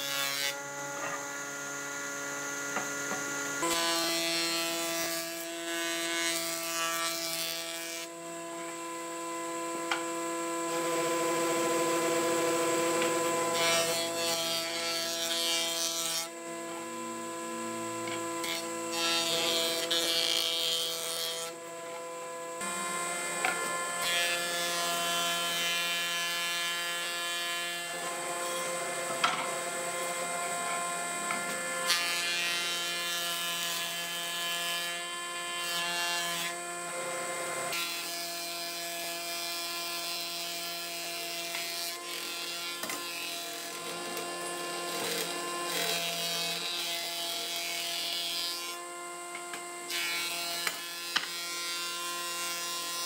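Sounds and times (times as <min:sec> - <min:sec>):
power tool working wood: 0:00.0 - 0:53.0.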